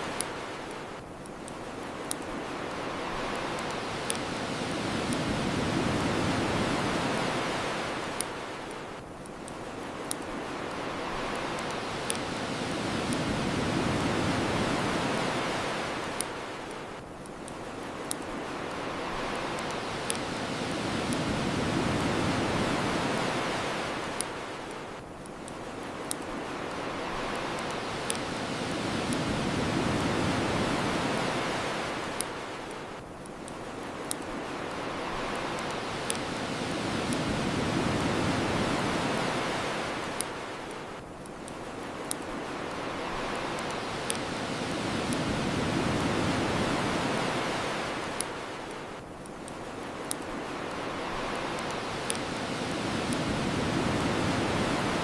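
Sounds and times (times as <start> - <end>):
bonfire crackling: 0.0 - 55.0
ocean waves washing up shore: 0.0 - 55.0.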